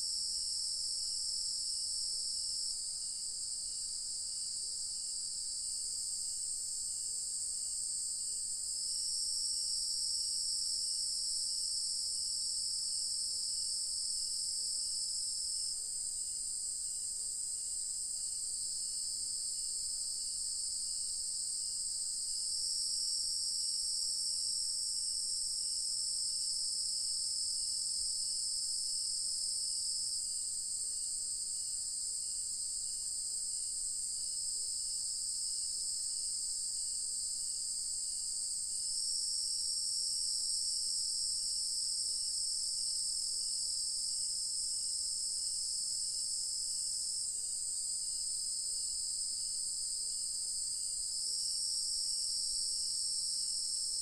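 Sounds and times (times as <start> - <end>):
low insect chirp: 0.0 - 54.0
crickets and cicadas droning: 0.1 - 54.0.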